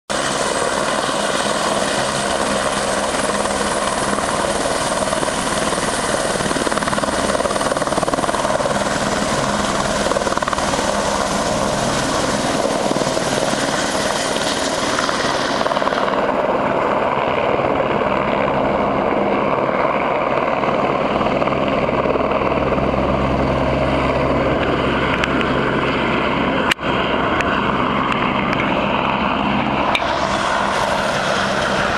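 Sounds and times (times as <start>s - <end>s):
helicopter taking off: 0.1s - 31.9s.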